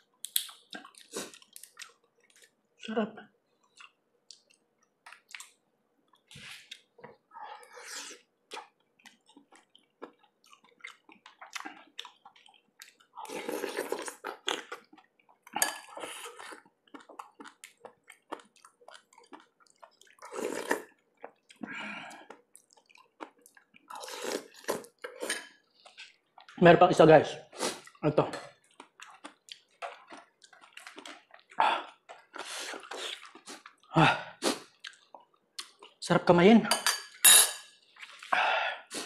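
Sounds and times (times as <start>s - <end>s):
mouth clicks and chewing: 0.2s - 2.9s, 3.5s - 7.2s, 8.0s - 25.0s, 27.6s - 36.0s.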